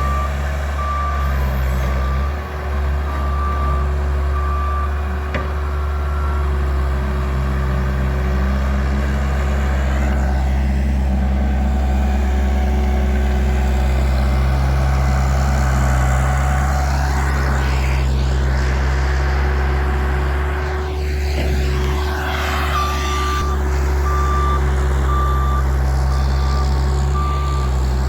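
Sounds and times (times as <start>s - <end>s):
loader engine running: 0.0s - 28.0s.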